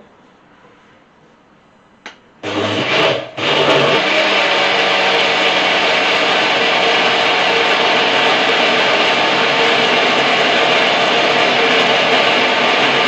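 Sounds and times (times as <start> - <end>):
blender motor running: 2.4 - 13.0.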